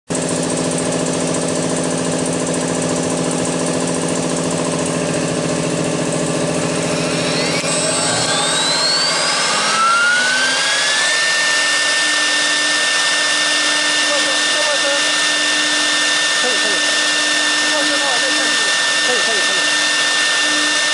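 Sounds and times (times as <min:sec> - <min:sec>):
router spindle whine rising: 0:00.1 - 0:20.9.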